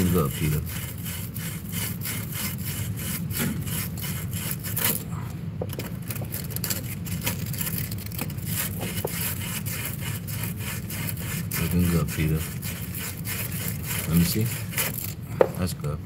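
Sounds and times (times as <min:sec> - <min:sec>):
sandpaper rubbing copper tube: 0:00.0 - 0:05.0, 0:06.3 - 0:15.2
steady low hum: 0:00.0 - 0:16.0.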